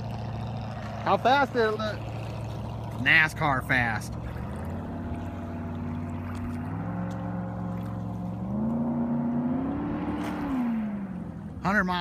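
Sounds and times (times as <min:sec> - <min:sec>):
race boat engine at speed: 0:00.0 - 0:12.0.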